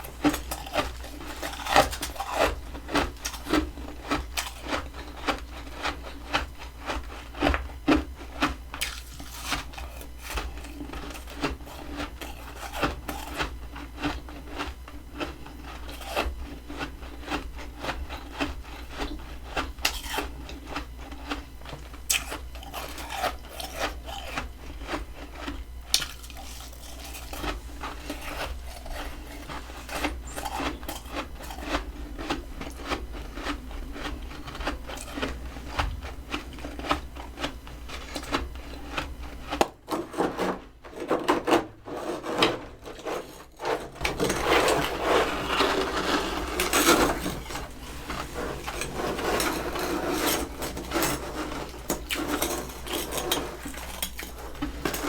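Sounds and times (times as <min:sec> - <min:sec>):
freezer frost crunching: 0:00.0 - 0:55.0.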